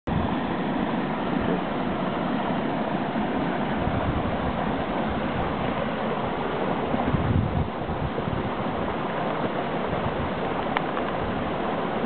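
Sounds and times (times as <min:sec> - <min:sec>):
stream babbling over rocks: 0:00.1 - 0:12.0.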